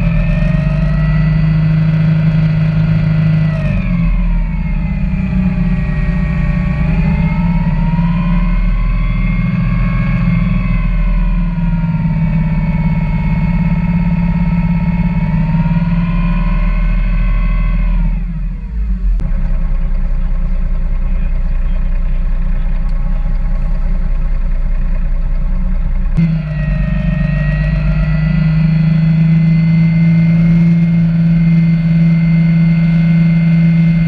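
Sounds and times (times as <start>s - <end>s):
boat engine whining: 0.0s - 34.0s.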